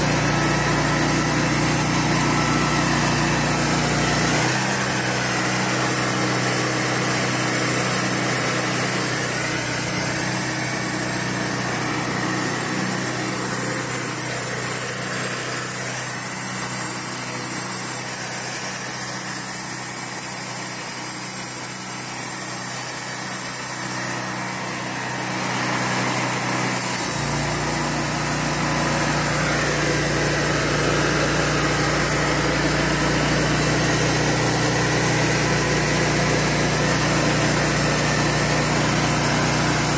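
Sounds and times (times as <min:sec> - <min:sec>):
band blade sawing wood: 0:00.0 - 0:16.4, 0:22.6 - 0:39.9
sawmill engine humming: 0:00.0 - 0:39.9.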